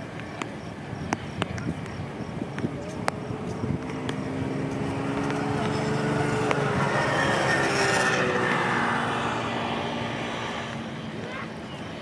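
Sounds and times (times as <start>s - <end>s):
traffic passing: 0.0s - 12.0s
vehicle engine humming: 0.0s - 12.0s.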